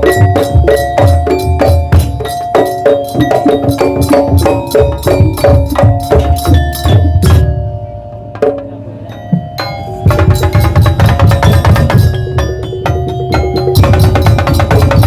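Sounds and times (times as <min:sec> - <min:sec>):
low drums: 0:00.0 - 0:15.0
metal gongs and chimes: 0:00.0 - 0:15.0.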